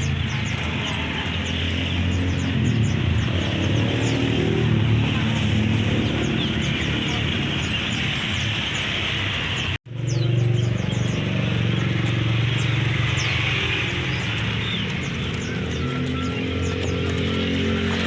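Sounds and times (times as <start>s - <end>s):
low rumble of passing traffic: 0.0s - 18.0s
songbirds chirping: 0.0s - 18.0s.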